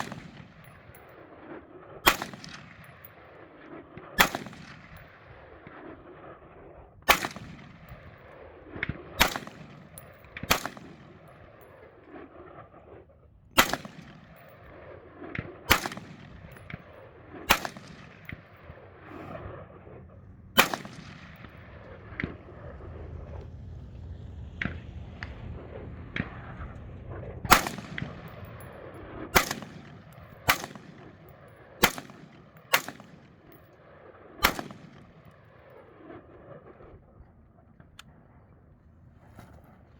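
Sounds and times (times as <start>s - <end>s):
rifle shots with echo: 0.0s - 23.4s, 24.6s - 37.0s.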